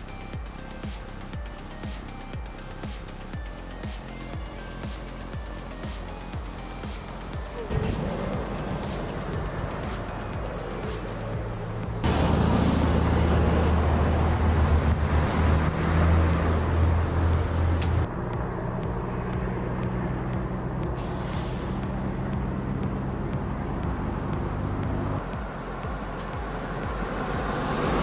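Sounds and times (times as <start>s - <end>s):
heavy vehicle engine droning: 0.0s - 28.0s.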